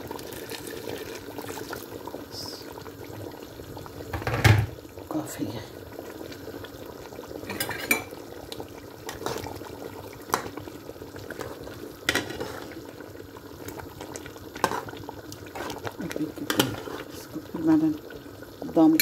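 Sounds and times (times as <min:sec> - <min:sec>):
liquid bubbling: 0:00.0 - 0:19.0.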